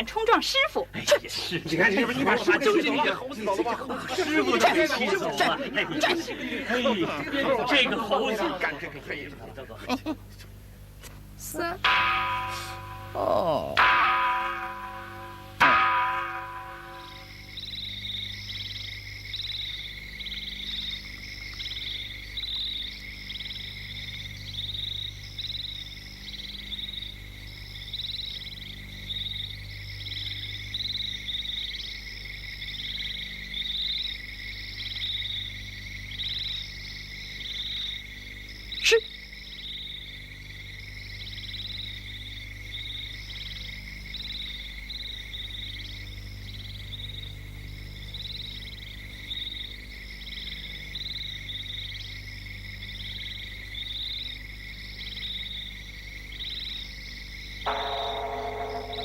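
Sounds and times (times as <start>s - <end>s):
frogs and insects trilling: 0.0s - 59.0s.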